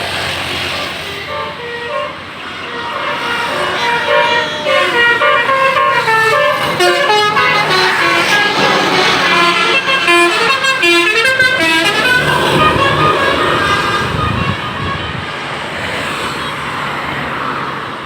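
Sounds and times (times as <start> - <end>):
multi-tone air horn melody: 0.7 - 15.5.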